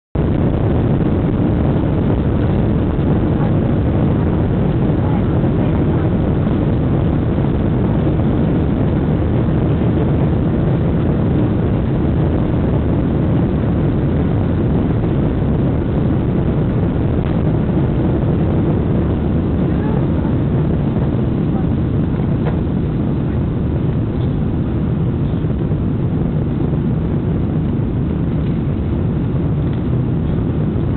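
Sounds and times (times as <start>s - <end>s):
jet engines and runway rumble: 0.1s - 30.9s.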